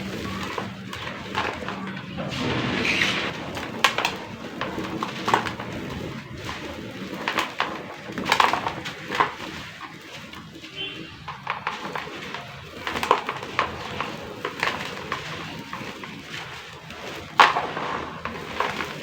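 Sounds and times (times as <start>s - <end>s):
dried paste crumbling and crackling: 0.0s - 19.0s.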